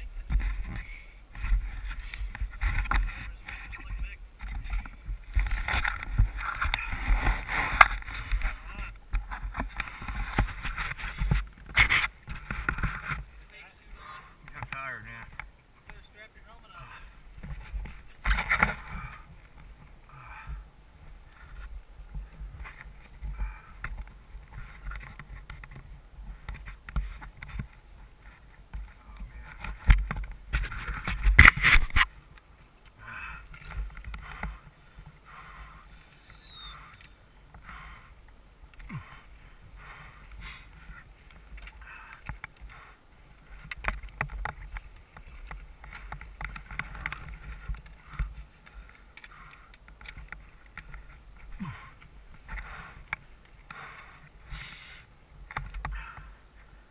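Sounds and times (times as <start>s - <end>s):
wind rumbling on microphone: 0.0s - 56.9s
knocks and rustles of bike gear: 0.2s - 13.4s, 17.3s - 20.0s, 21.4s - 32.4s, 33.4s - 35.2s, 39.8s - 56.7s.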